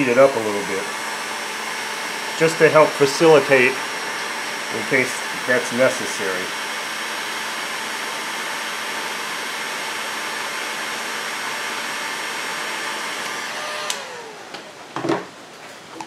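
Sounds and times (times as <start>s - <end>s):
heat gun blowing air: 0.0s - 14.6s
fan winding down: 0.0s - 15.1s.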